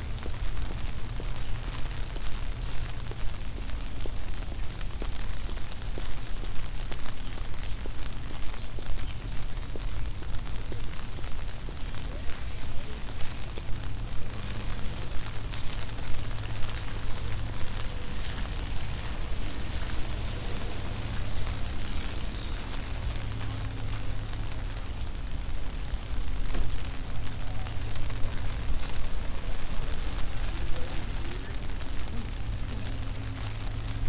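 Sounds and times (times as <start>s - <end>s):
light crackles: 0.0s - 34.0s
rain hissing: 0.0s - 34.0s
traffic on wet pavement: 0.0s - 34.0s.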